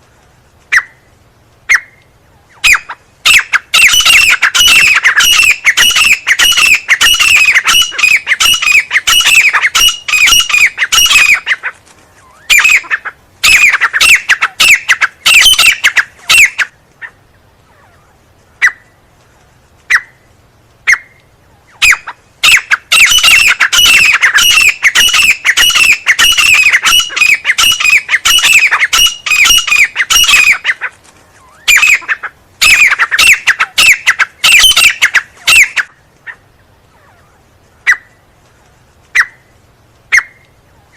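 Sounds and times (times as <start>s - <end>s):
francolin calling: 0.7s - 19.0s, 19.8s - 38.2s, 39.1s - 40.9s.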